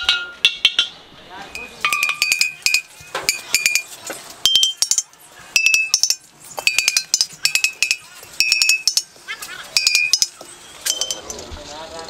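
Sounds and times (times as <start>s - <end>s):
clay pots tapped ringing: 0.0s - 11.4s.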